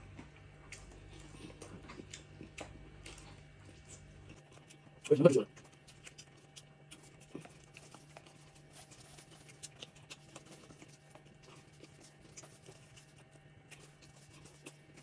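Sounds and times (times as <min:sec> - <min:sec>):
chewing and wet mouth sounds: 0:00.0 - 0:15.0
steady low hum: 0:00.0 - 0:15.0.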